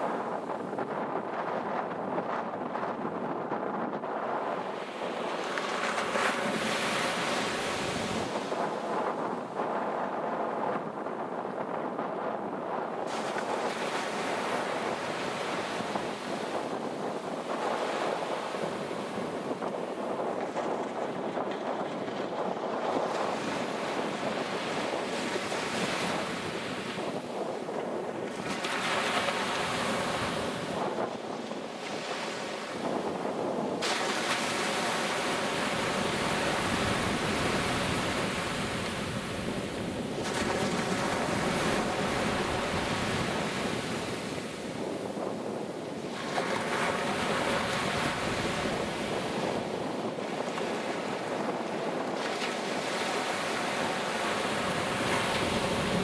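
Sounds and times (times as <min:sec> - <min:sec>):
surf breaking on stony shore: 0:00.0 - 0:56.0
wind buffeting microphone: 0:00.0 - 0:56.0.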